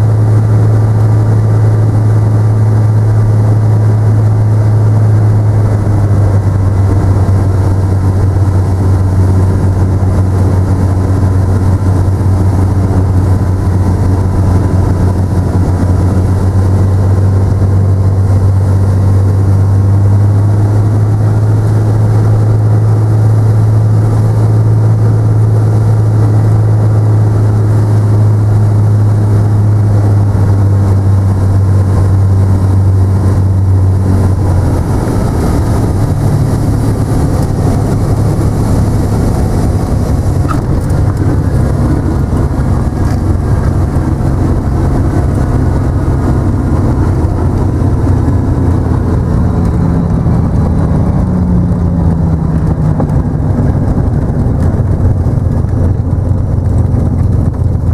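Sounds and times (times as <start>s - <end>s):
propeller aircraft engine drone: 0.0s - 57.9s.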